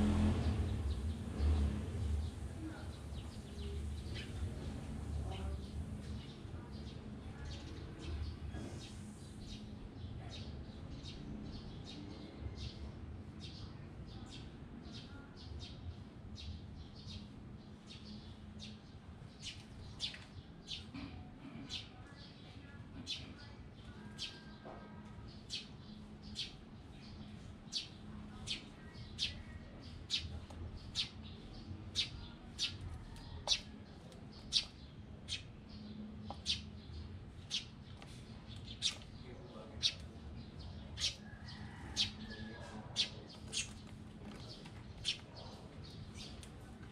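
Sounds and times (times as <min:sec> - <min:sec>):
sparrows chirping: 0:00.0 - 0:46.9.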